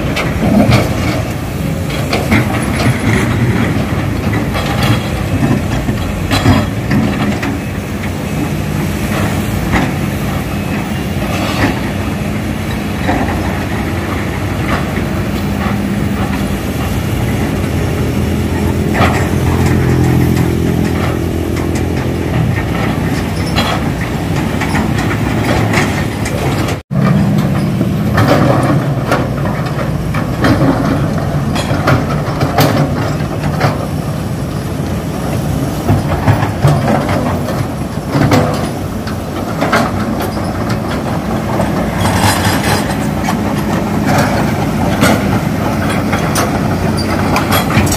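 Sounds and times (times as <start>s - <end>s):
excavator diesel engine running: 0.0s - 47.9s
machine knocks and clanks: 0.0s - 47.9s.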